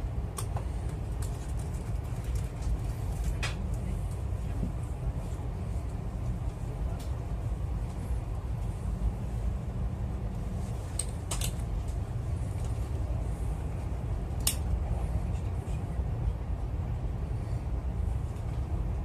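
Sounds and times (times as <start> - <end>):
train rumbling inside carriage: 0.0 - 19.0.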